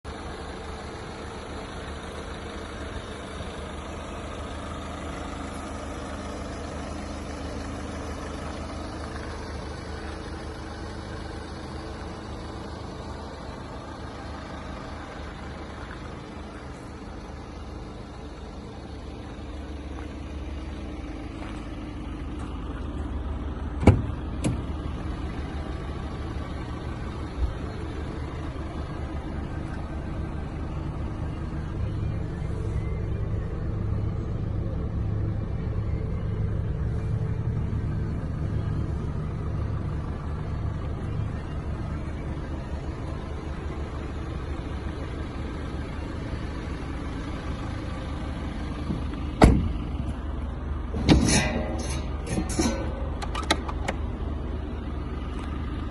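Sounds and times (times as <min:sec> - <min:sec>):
diesel van engine running: 0:00.0 - 0:55.9.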